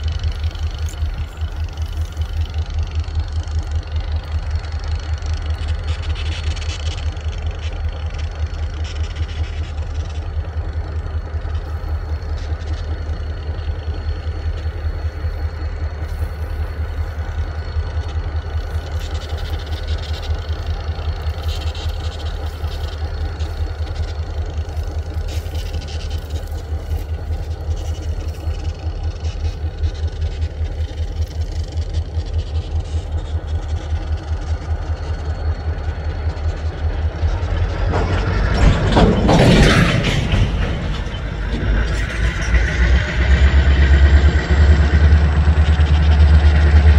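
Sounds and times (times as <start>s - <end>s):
locomotive engine idling: 0.0s - 46.9s.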